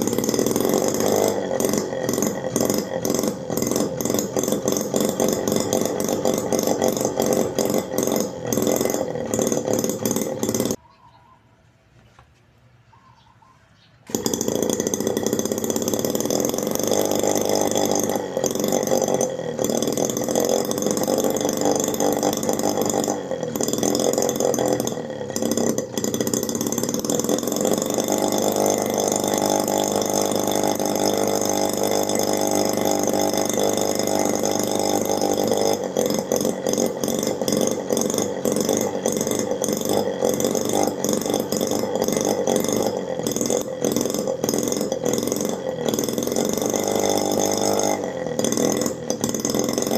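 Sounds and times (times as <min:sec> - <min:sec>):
miniature two-stroke engine buzzing: 0:00.0 - 0:10.8, 0:14.0 - 0:49.9.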